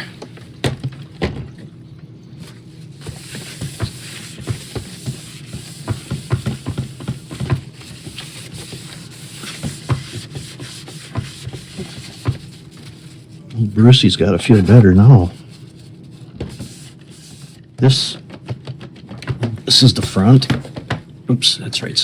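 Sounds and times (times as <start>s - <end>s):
faint steady hum: 0.0s - 22.0s
plastic rubbing: 2.4s - 21.0s.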